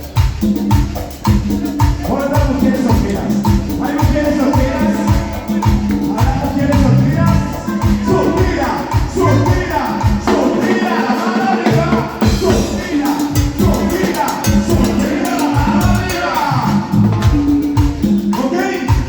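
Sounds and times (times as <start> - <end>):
live band playing latin dance music: 0.0 - 19.0.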